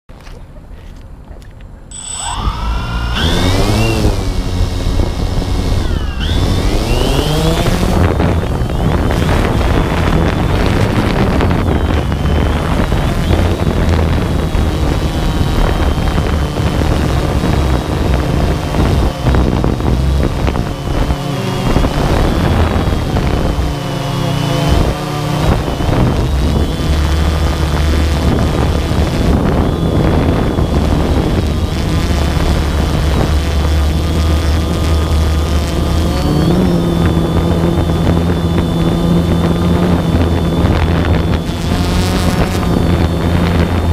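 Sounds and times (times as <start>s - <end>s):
drone motors buzzing and whining: 1.9s - 43.9s
wind rushing over microphone: 1.9s - 43.9s.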